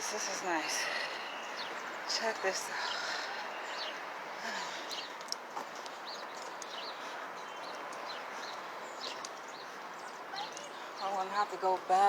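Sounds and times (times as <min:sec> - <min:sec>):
small birds chirping: 0:00.0 - 0:12.0
steady outdoor hiss: 0:00.0 - 0:12.0.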